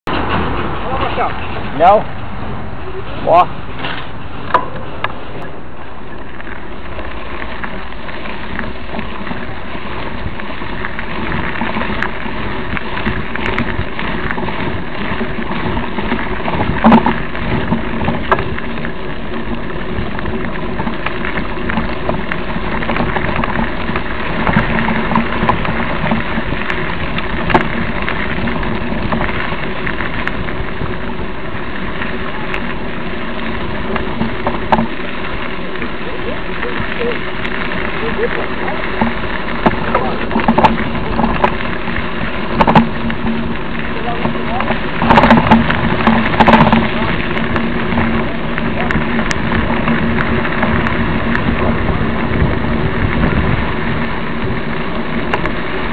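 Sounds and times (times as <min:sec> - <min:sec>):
bike knocking over bumps: 0:00.0 - 0:02.4, 0:03.3 - 0:05.5, 0:06.2 - 0:55.9
mountain bike rattling on dirt trail: 0:00.0 - 0:55.9
dry grass sweeping against bike: 0:00.1 - 0:55.9.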